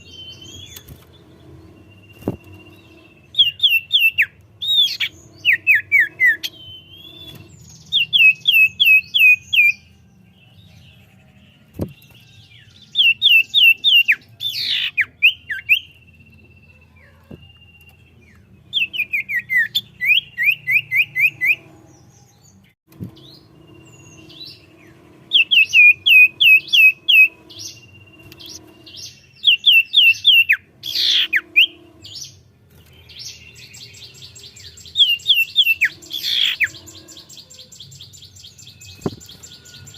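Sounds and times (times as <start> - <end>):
bird singing whistled notes: 0.0 - 11.2, 11.8 - 39.9.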